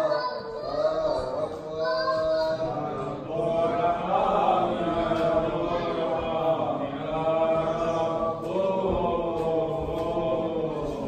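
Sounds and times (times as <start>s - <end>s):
liturgical chant: 0.0s - 11.0s.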